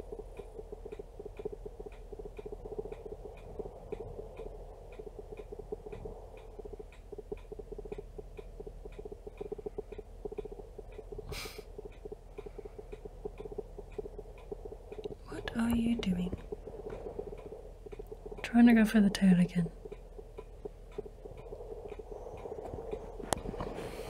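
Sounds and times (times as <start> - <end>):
faint even ticks: 0.0 - 24.0.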